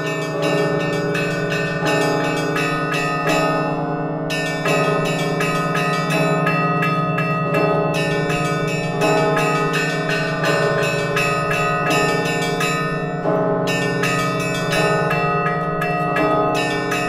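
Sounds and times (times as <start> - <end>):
hum of large bells: 0.0 - 17.0
small church bells ringing: 0.0 - 17.0.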